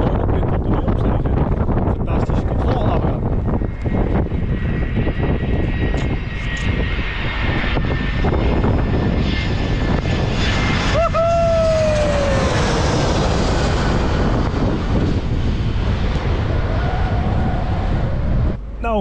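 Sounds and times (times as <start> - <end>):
airliner engine rumble: 0.0 - 19.0
jet engine whine: 0.0 - 19.0
wind buffeting microphone: 0.0 - 19.0.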